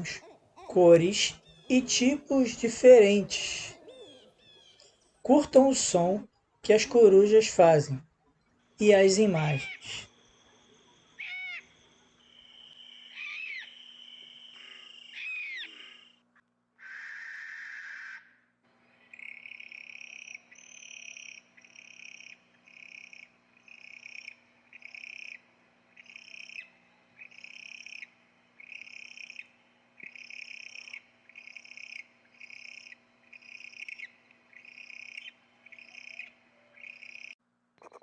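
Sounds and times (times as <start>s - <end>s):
owl calling: 0.0s - 6.0s, 8.8s - 16.2s, 16.8s - 38.0s.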